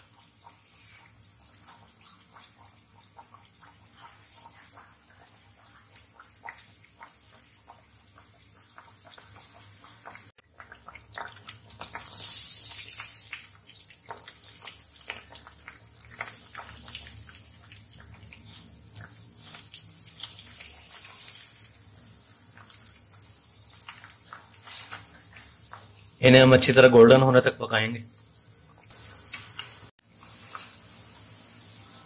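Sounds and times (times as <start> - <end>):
dough deep-frying in oil: 0.0 - 32.0.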